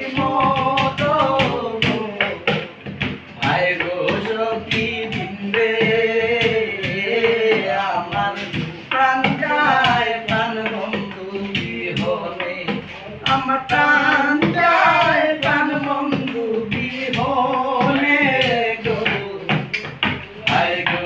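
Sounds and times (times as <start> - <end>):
men singing folk song: 0.0 - 21.0.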